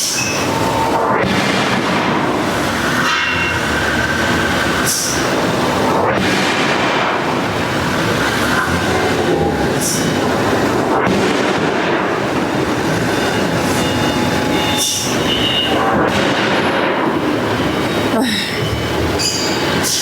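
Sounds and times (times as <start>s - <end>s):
clattering machinery: 0.0s - 20.0s.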